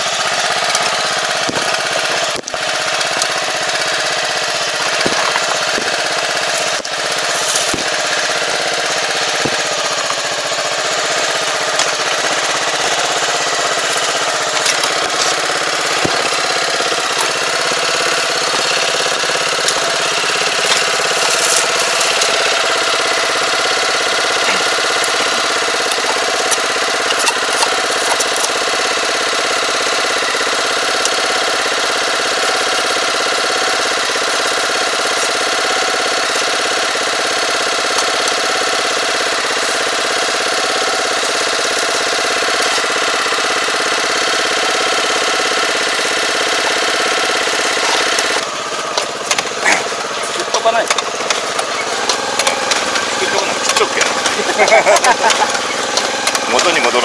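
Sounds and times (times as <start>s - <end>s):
small engine idling: 0.0s - 57.0s.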